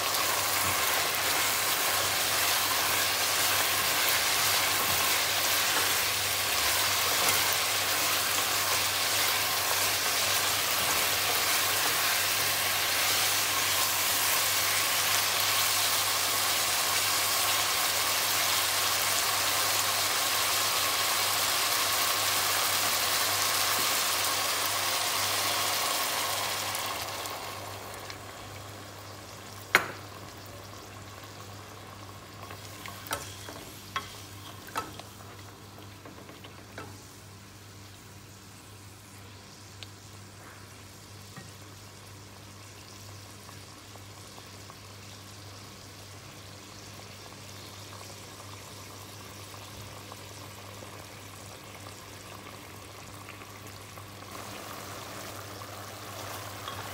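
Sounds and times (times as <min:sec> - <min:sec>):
sauce simmering: 0:00.0 - 0:40.4, 0:41.0 - 0:56.9
chicken sizzling in a pot: 0:00.0 - 0:56.9.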